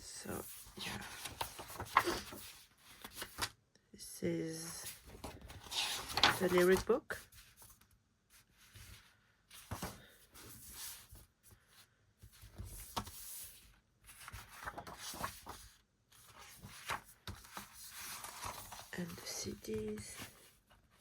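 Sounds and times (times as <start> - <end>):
paper pages rustling: 0.4 - 3.5, 4.8 - 21.0.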